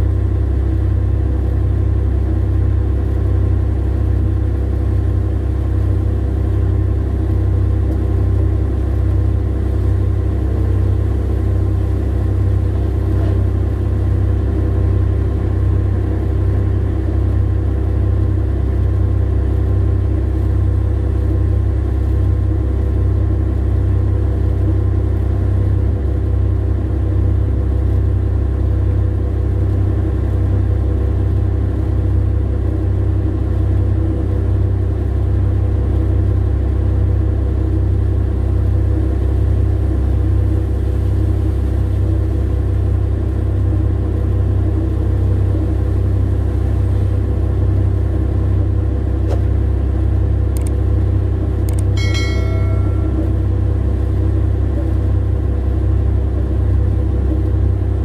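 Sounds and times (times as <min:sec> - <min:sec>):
diesel engine droning: 0:00.0 - 0:58.0
steady hum: 0:00.0 - 0:58.0.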